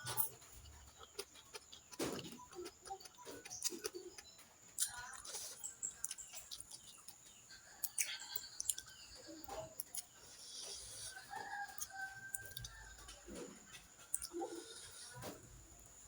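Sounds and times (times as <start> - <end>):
chewing and wet mouth clicks: 0.0 - 15.4
hen clucking: 0.0 - 15.5.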